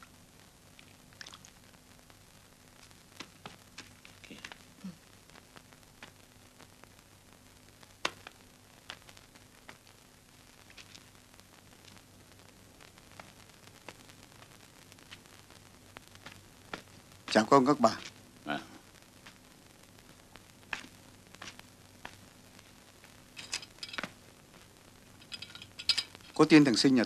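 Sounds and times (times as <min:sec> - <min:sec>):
faint clicks and pops: 0:00.0 - 0:26.4
film soundtrack hiss and hum: 0:00.0 - 0:27.0.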